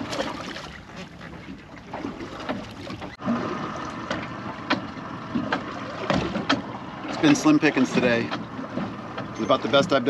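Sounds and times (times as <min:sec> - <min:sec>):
water lapping on boat hull: 0:00.0 - 0:10.0.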